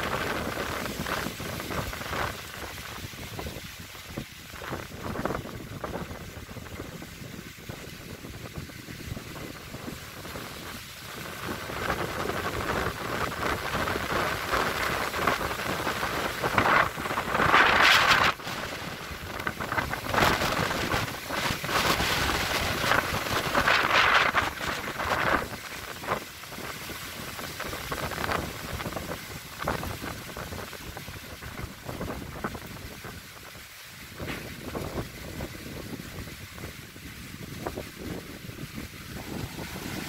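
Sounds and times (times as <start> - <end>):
strong gusty wind: 0.0 - 40.0.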